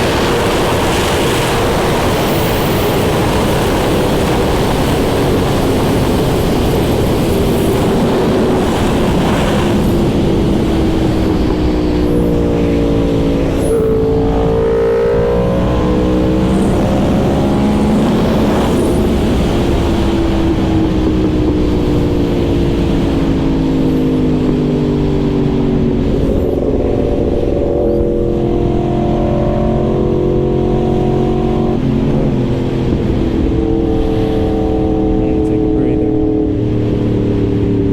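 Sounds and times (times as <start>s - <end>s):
motorcycle engine accelerating: 0.0s - 37.9s
wind rushing over microphone: 0.0s - 37.9s.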